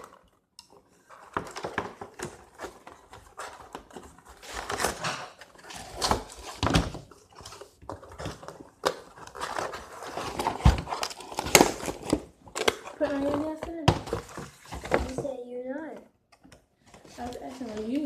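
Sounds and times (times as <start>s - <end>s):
packaging crinkling and clicking: 0.0s - 15.3s.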